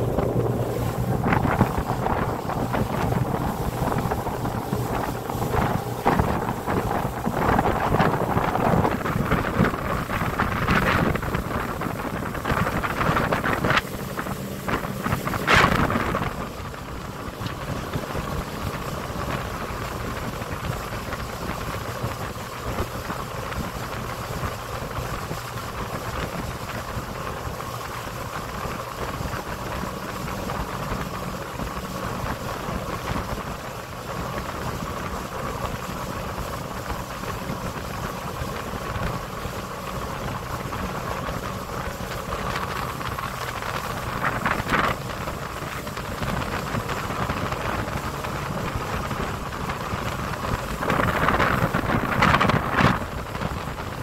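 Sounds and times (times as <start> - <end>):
motorboat engine droning: 0.0 - 54.0
water rushing along hull: 0.0 - 54.0
wind buffeting microphone: 0.0 - 54.0.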